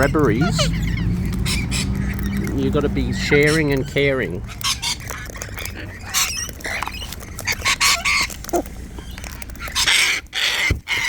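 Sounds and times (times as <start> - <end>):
cockatoos squawking: 0.0 - 11.0.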